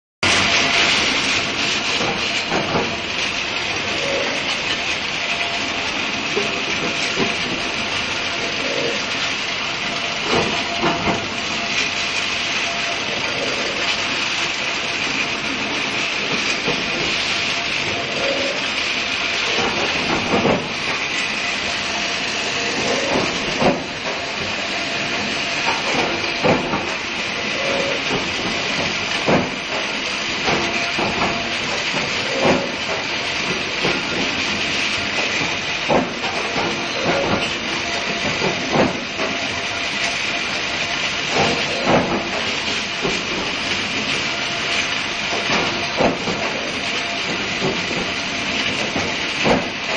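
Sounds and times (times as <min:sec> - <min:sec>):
heater hissing: 0:00.4 - 0:49.9.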